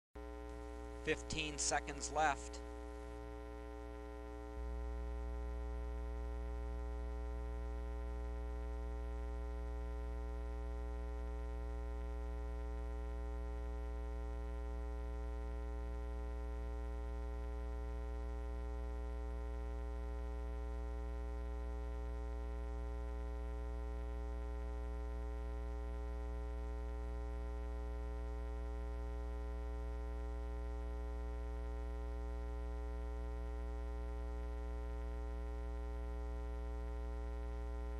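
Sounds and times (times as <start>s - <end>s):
electrical mains hum: 0.2s - 37.9s.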